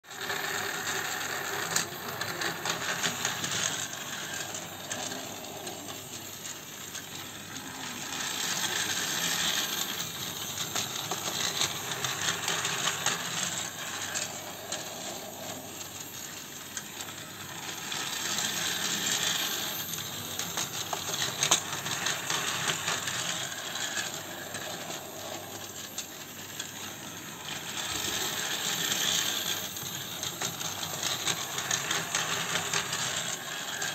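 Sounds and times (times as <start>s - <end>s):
toy train motor whir: 0.0s - 33.9s.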